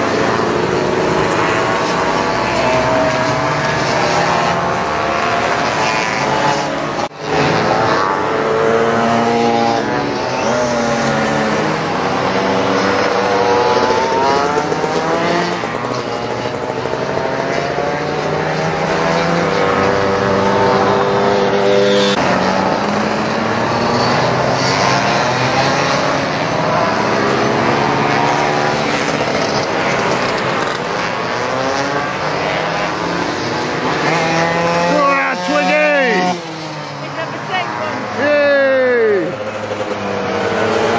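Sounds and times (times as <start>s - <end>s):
scooter engines revving: 0.0s - 40.9s.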